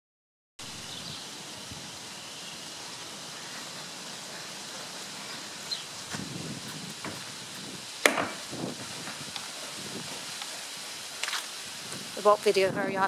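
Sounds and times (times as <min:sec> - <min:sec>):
breeze hiss: 0:00.6 - 0:13.0.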